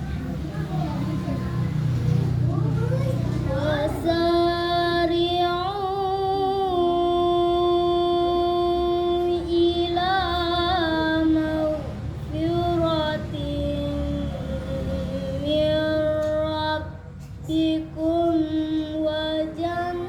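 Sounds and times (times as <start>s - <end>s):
girl reciting melodically: 0.0s - 20.0s.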